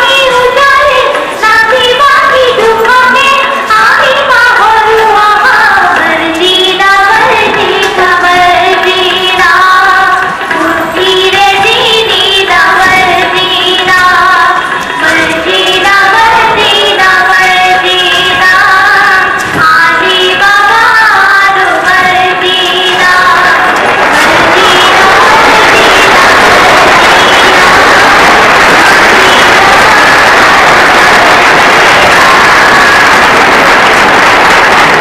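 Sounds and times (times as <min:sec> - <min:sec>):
high voices singing: 0:00.0 - 0:35.0.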